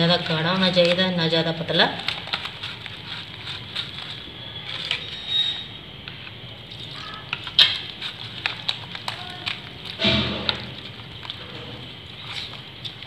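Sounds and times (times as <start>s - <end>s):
hand mixing batter with wet slaps: 0.0s - 5.1s, 6.0s - 13.0s.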